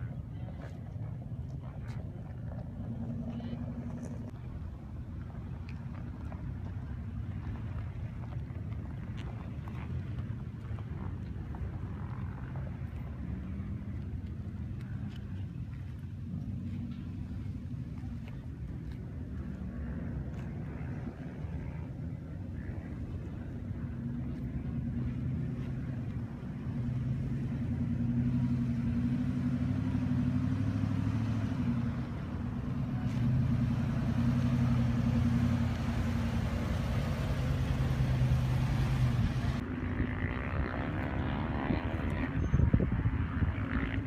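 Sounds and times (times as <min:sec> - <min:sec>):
engine running at low revs: 0:00.0 - 0:44.0.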